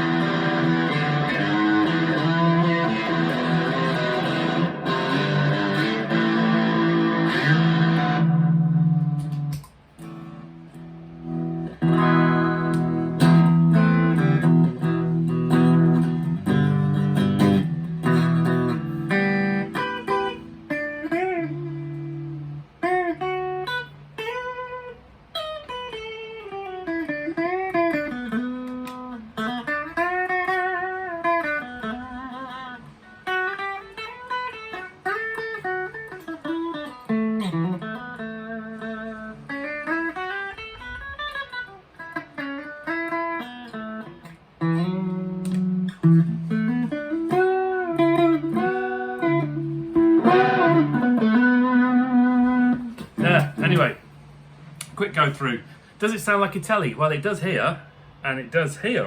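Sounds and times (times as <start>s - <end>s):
electric guitar playing: 0.0s - 59.0s.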